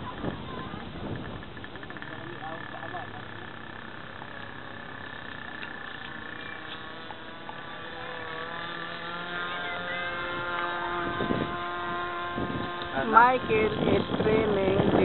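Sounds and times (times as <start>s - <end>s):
model airplane motor buzzing: 0.0s - 15.0s.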